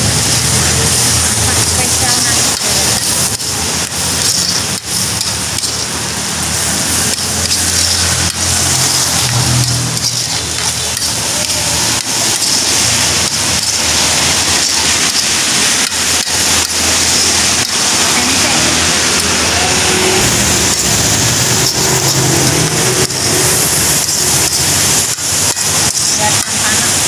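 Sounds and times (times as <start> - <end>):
food sizzling in hot oil: 0.0 - 27.0
metal spatula stirring in wok: 0.0 - 27.0.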